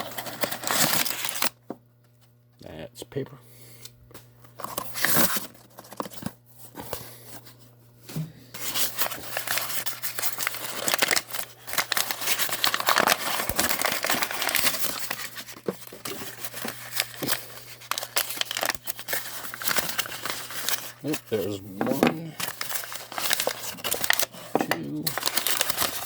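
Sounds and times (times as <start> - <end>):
packing paper rustling: 0.0 - 1.6, 4.5 - 7.6, 8.6 - 26.0.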